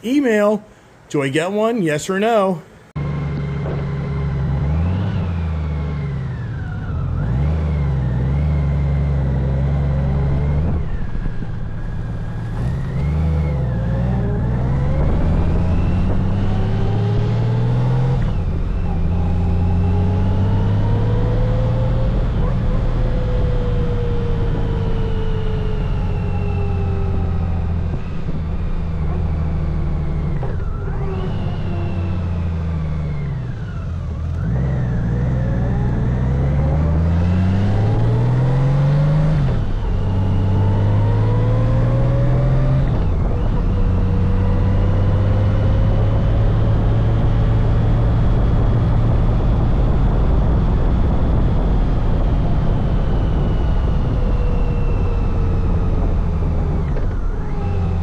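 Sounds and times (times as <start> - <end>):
motorcycle engine accelerating: 3.0 - 58.0.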